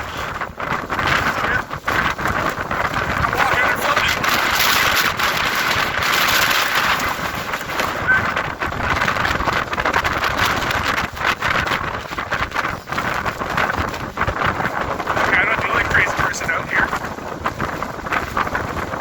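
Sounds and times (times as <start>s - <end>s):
gusting wind rushing: 0.0s - 19.0s.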